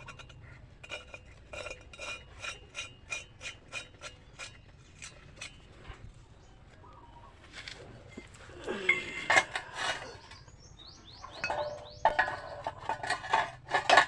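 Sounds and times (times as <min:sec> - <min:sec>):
metal scraping and clinking: 0:00.0 - 0:06.5, 0:07.6 - 0:14.0.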